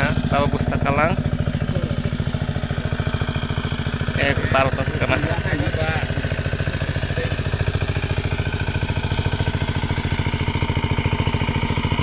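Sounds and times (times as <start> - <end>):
small engine pulsing: 0.0 - 12.0.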